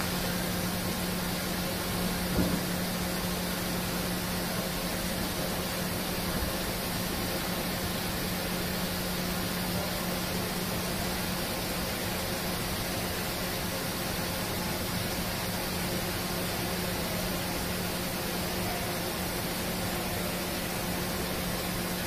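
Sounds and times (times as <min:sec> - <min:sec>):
machine humming and hissing: 0:00.0 - 0:22.0.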